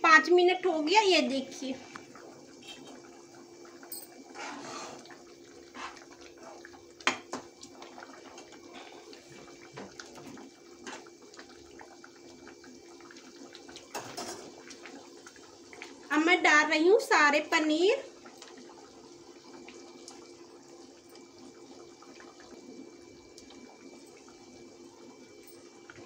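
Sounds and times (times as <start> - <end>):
gravy simmering and bubbling: 0.2 - 26.0.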